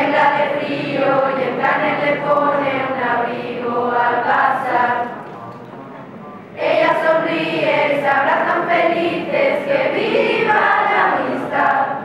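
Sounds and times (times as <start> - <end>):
choir of students singing a carol: 0.0 - 5.2, 6.6 - 12.0.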